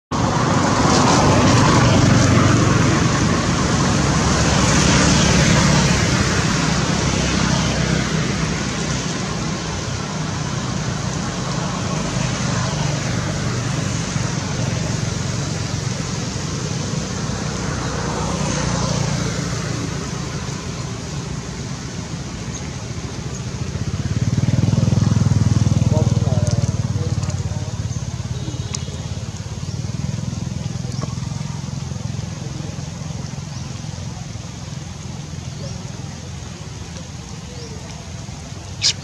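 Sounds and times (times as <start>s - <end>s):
road traffic rushing by: 0.1s - 39.0s.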